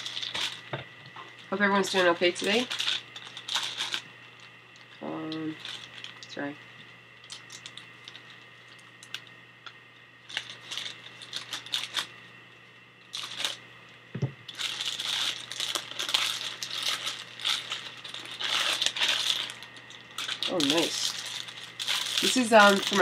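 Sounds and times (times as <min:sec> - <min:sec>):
plastic packaging crinkling: 0:00.0 - 0:09.4, 0:10.2 - 0:12.2, 0:13.1 - 0:13.6, 0:14.5 - 0:23.0.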